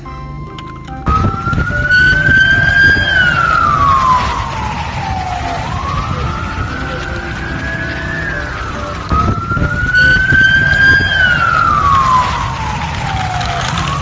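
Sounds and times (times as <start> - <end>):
ambulance siren wailing: 0.0 - 14.0.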